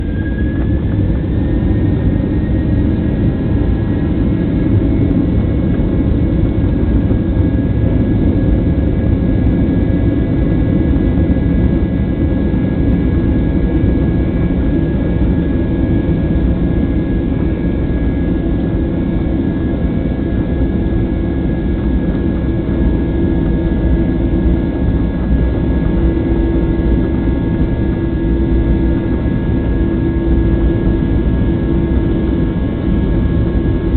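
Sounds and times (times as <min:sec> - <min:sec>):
high jet engine whine: 0:00.0 - 0:33.9
jet engines rumbling: 0:00.0 - 0:33.9.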